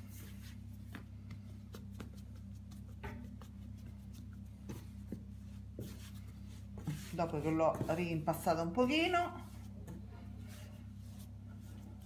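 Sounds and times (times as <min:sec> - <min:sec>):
hands kneading dough: 0:00.0 - 0:12.0
steady low hum: 0:00.0 - 0:12.0.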